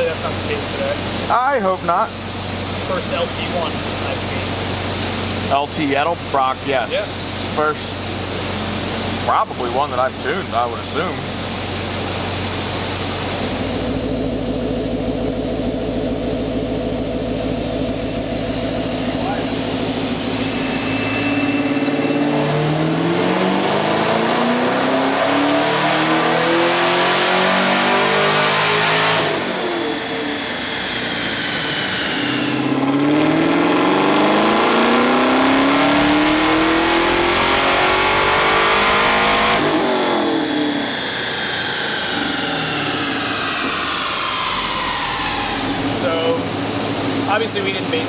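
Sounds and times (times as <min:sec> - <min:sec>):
engine revving: 0:00.0 - 0:48.0
supercharger whine: 0:00.0 - 0:48.0.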